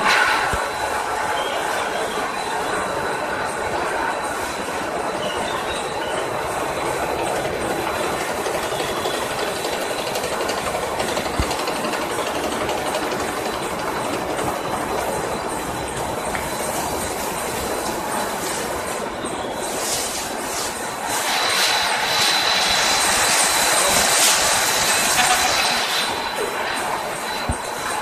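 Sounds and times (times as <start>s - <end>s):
machinery running: 0.0s - 28.0s
thin high whine: 0.0s - 28.0s.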